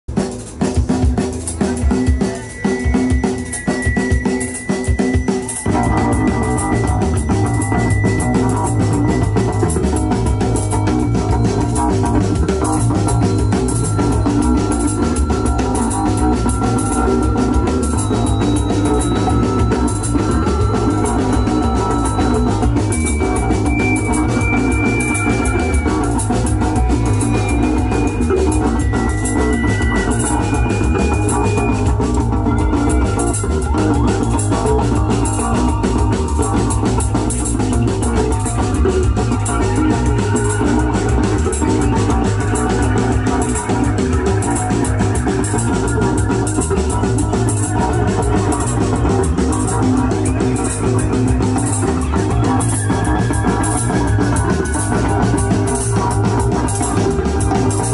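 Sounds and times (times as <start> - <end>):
drum kit: 0.1 - 57.9
electric guitars: 0.1 - 57.9
organ-like keyboard: 0.1 - 57.9.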